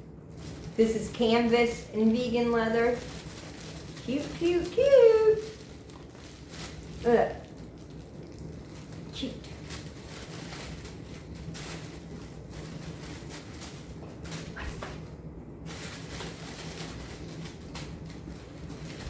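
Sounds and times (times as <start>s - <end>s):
rustling and handling sounds: 0.0s - 19.0s
steady low hum: 0.0s - 19.0s.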